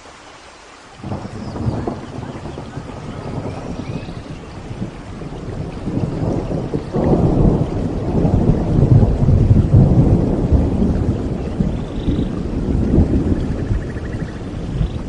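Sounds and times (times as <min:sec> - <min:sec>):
steady rain: 0:00.0 - 0:15.0
rolling thunder: 0:01.0 - 0:15.0.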